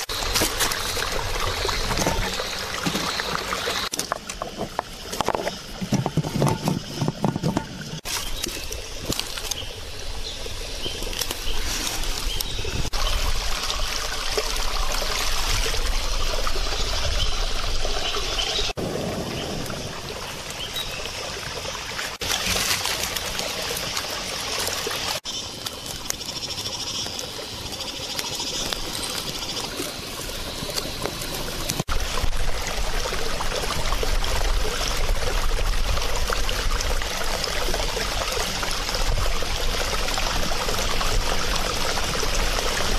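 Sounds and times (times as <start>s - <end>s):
water running over rocks: 0.0s - 42.9s.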